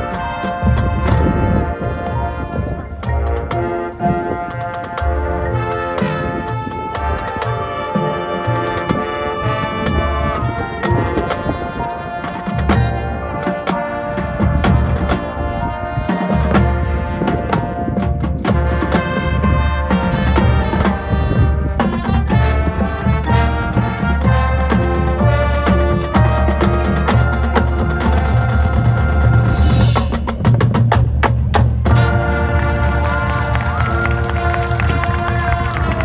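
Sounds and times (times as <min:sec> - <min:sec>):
brass section chords: 0:00.0 - 0:30.0, 0:31.8 - 0:36.0
drumline steady beat: 0:00.0 - 0:36.0.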